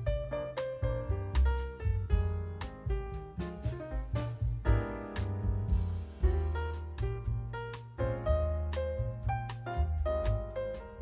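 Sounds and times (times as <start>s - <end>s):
bass line: 0.0s - 11.0s
instrumental music with piano: 0.0s - 11.0s
steady drum beat: 0.0s - 11.0s.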